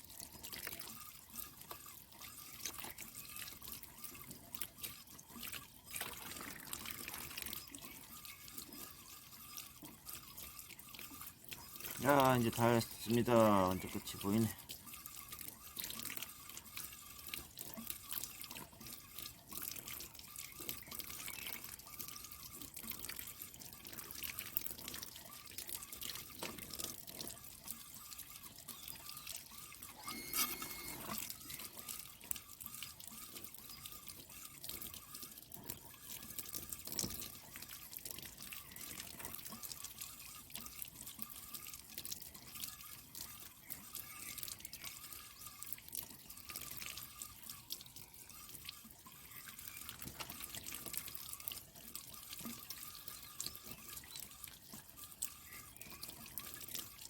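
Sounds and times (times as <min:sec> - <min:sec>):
water dripping and splashing: 0:00.0 - 0:57.0.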